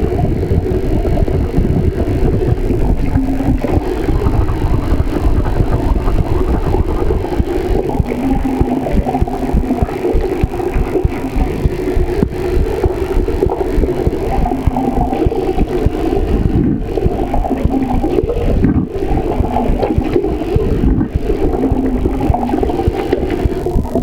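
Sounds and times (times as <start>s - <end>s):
heartbeat: 0.0s - 24.0s
steady rumble: 0.0s - 24.0s.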